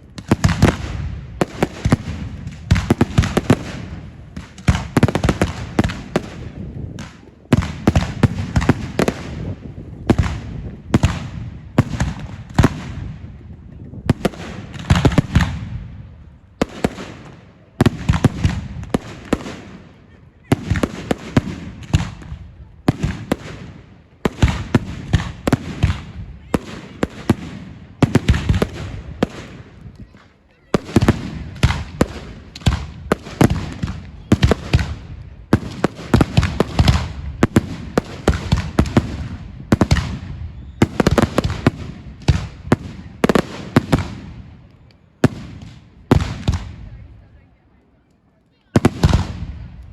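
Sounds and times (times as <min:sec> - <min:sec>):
fireworks banging and crackling: 0:00.0 - 0:49.9.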